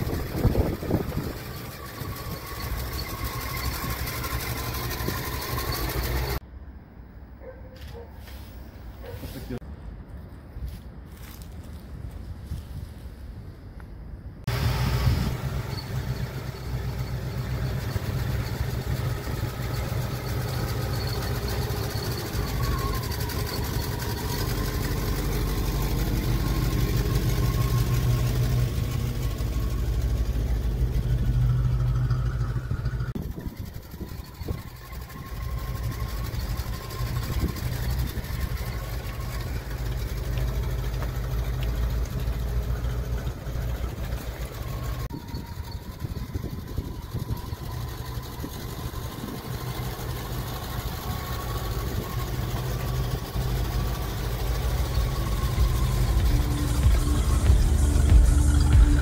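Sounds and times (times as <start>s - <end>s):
car engine running at low revs: 0.0s - 6.4s, 14.4s - 59.0s.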